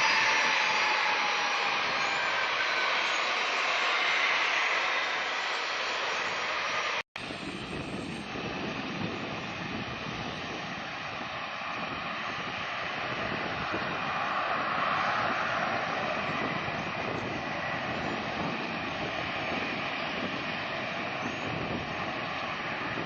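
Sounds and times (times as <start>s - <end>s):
jet engines rushing with whine: 0.0s - 23.0s.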